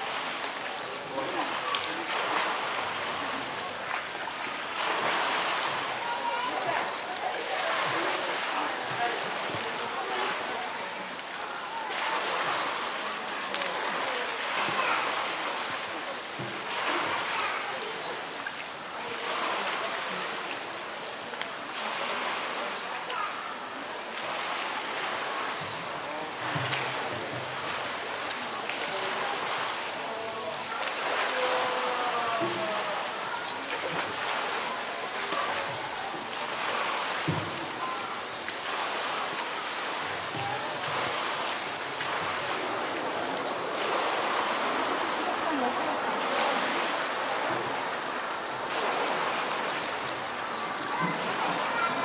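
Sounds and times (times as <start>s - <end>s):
small sharp splashes: 0.0s - 52.0s
water sloshing: 0.0s - 52.0s.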